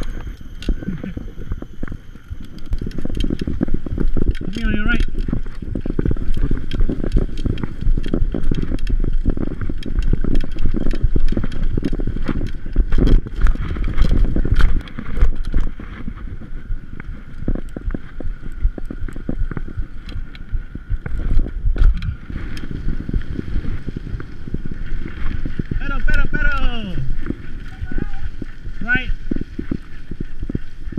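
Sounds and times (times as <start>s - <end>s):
bike rattling and knocking: 0.0s - 30.9s
wind buffeting microphone: 0.0s - 30.9s.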